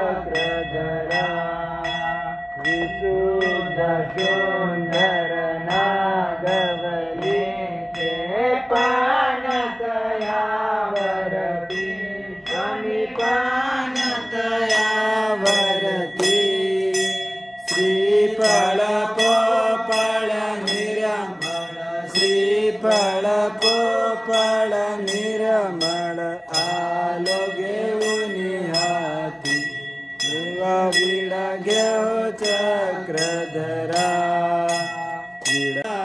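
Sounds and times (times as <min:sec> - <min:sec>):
group devotional singing: 0:00.0 - 0:36.0
temple bell struck: 0:00.0 - 0:36.0.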